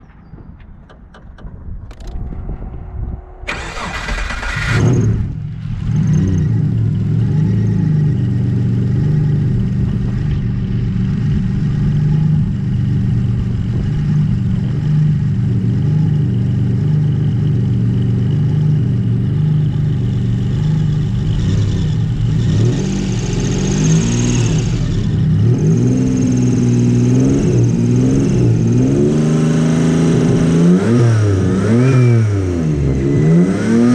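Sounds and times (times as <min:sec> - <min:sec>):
car engine cranking and starting: 0:00.7 - 0:33.9
car engine idling: 0:00.8 - 0:30.5
engine revving: 0:01.9 - 0:33.9.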